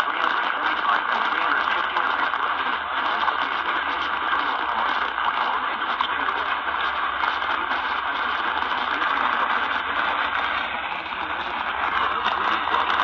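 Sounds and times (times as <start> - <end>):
radio static and hiss: 0.0 - 13.0.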